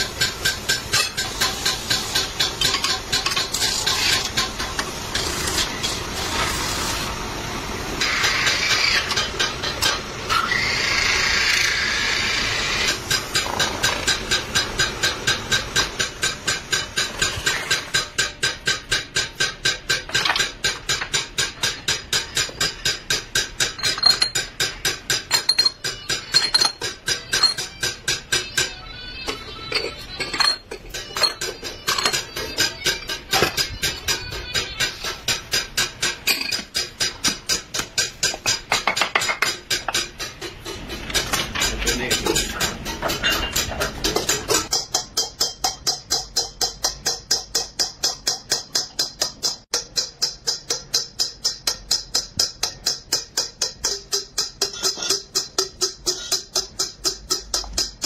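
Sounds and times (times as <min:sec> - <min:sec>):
tools scraping spinning copper: 0:00.0 - 0:07.2, 0:08.0 - 0:58.0.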